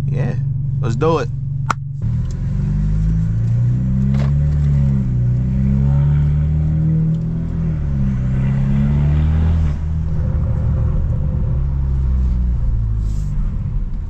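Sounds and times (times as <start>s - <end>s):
car engine and exhaust accelerating: 0.0s - 14.0s.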